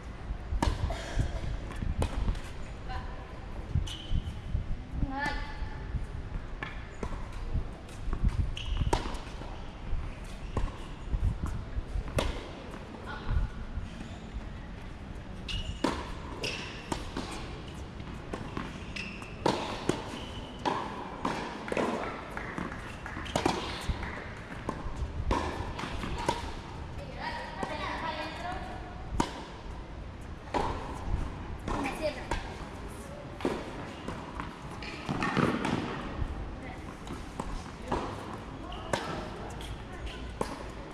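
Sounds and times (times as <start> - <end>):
tennis balls struck and bouncing: 0.5 - 2.6, 6.3 - 9.6, 10.5 - 14.1, 15.4 - 32.8, 33.4 - 40.9.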